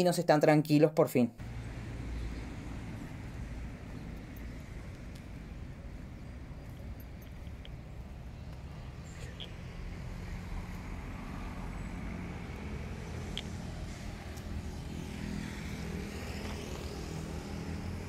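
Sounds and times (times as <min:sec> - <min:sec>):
low rumble of street noise: 0:01.4 - 0:18.0
vehicle passing by: 0:01.4 - 0:18.0.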